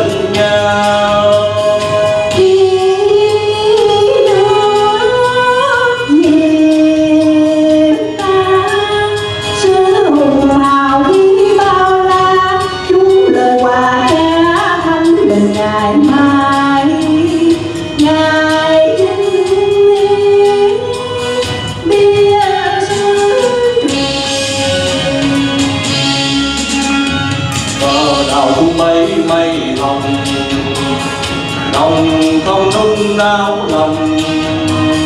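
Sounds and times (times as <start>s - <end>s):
woman and man singing duet: 0.0s - 26.6s, 27.8s - 31.0s, 31.6s - 35.0s.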